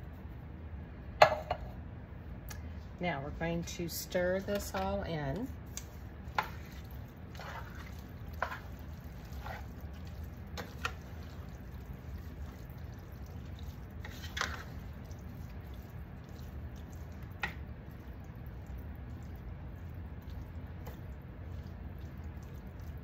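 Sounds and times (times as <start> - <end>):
steady low hum: 0.0 - 23.0
spatula squelching and scraping food: 3.2 - 23.0.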